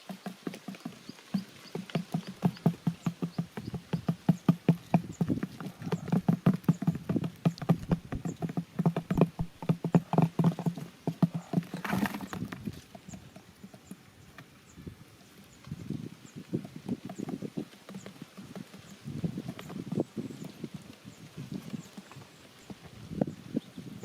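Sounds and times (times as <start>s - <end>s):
rapid uneven tapping and knocking: 0.0s - 14.7s, 15.6s - 23.4s.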